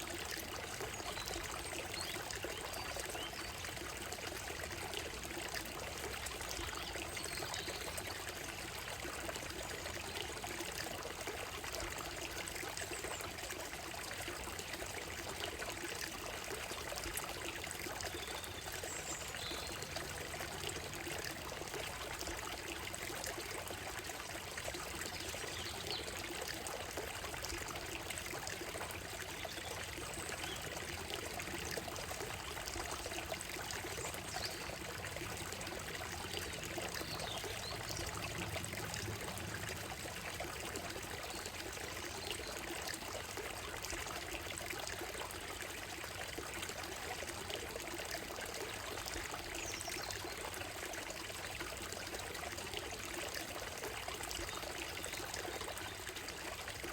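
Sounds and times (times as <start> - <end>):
stream running over stones: 0.0 - 56.9.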